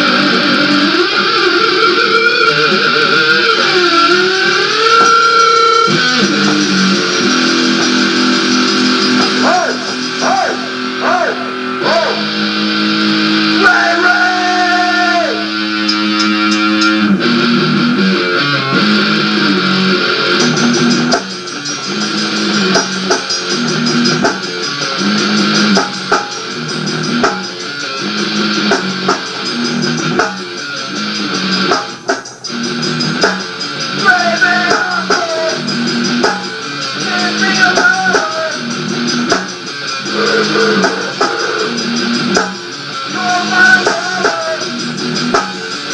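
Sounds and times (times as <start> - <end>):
bent lead guitar notes: 0.0 - 45.9
drums: 0.0 - 45.9
ringing guitar chords: 0.0 - 45.9
rock band music: 0.0 - 45.9.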